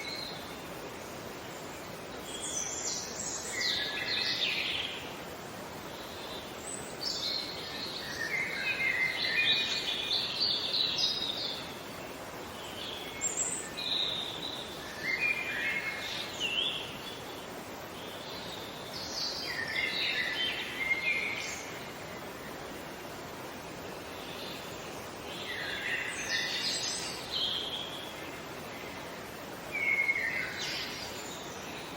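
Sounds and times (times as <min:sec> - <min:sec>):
songbirds chirping: 0:00.0 - 0:31.9
steady background hiss: 0:00.0 - 0:31.9.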